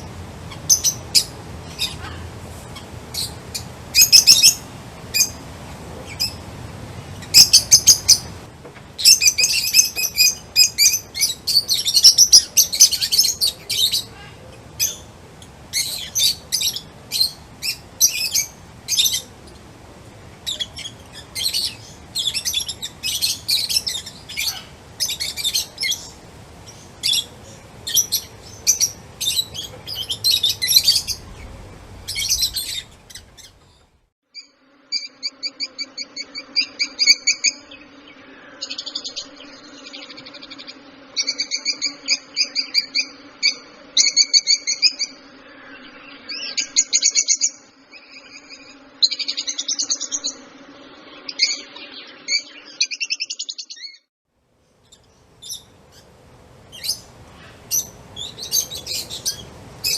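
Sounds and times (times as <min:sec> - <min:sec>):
small songbirds chirping: 0:00.0 - 0:35.2, 0:35.8 - 0:59.9.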